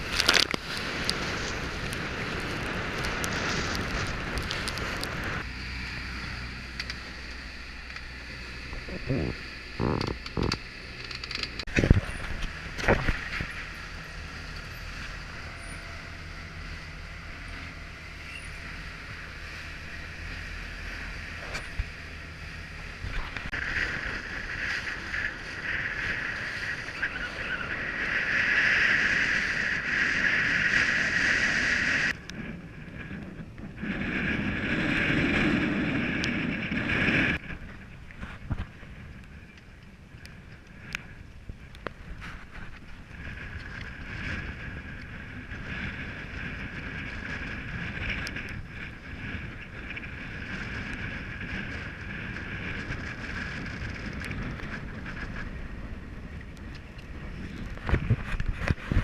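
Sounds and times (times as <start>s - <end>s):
boat engine humming: 0.0s - 59.0s
rush of wind and water: 0.0s - 59.0s.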